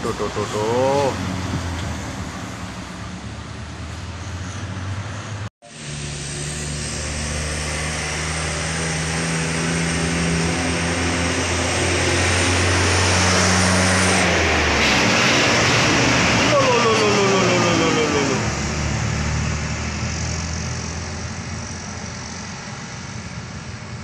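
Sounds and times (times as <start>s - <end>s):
bus passing: 0.0s - 24.0s
truck passing by: 0.0s - 24.0s.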